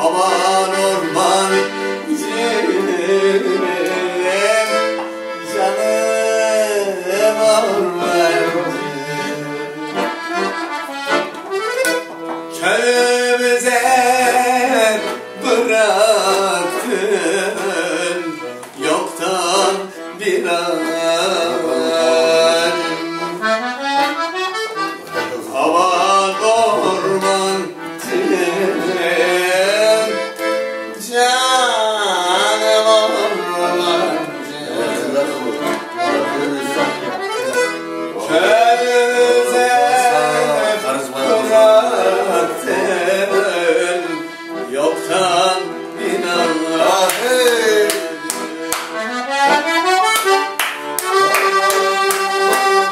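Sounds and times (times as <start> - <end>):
piano accordion folk melody: 0.0 - 52.9.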